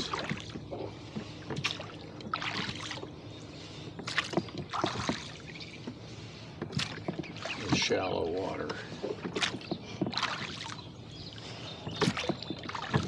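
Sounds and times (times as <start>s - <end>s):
oars splashing in water: 0.0s - 13.0s.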